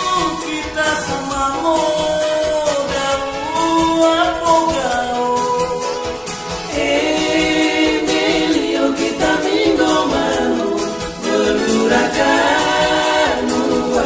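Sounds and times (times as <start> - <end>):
voices singing held notes: 0.0 - 14.0
voices singing in harmony: 0.0 - 14.0.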